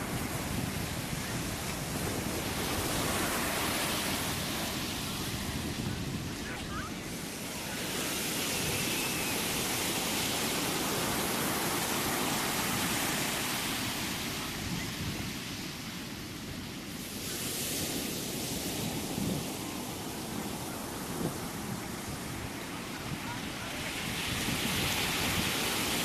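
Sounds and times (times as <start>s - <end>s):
ocean waves rushing: 0.0s - 26.0s.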